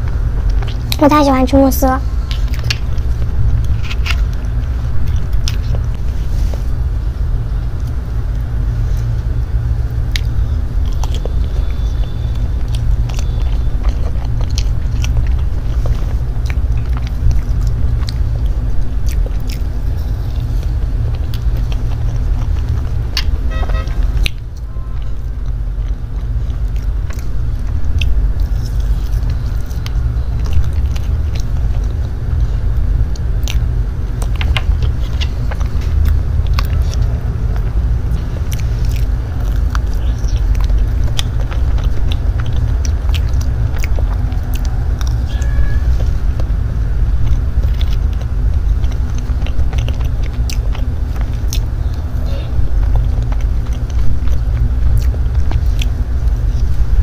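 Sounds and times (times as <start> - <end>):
chewing and biting cake: 0.0 - 57.0
steady low rumble: 0.0 - 57.0.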